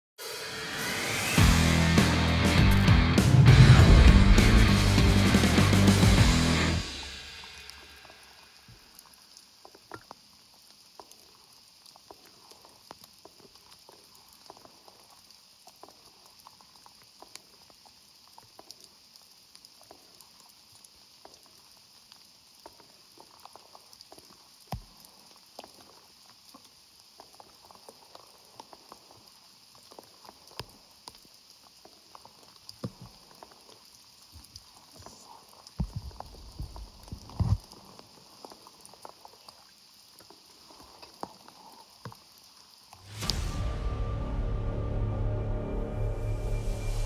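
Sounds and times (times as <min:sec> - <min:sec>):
rain hissing: 0:00.2 - 0:47.0
raindrops pattering: 0:03.9 - 0:43.3.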